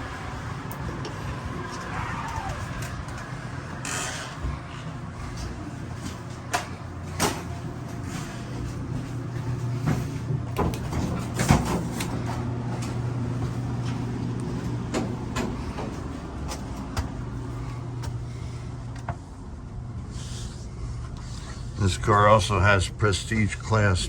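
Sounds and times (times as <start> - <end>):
rail car hum: 0.0 - 24.0.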